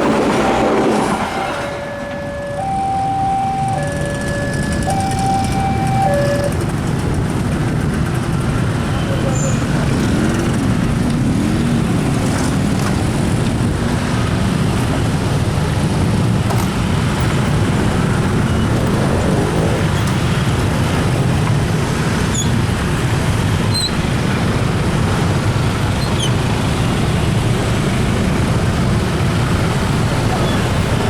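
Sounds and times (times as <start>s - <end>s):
train wheels rumbling on rails: 0.0s - 2.7s, 3.5s - 31.0s.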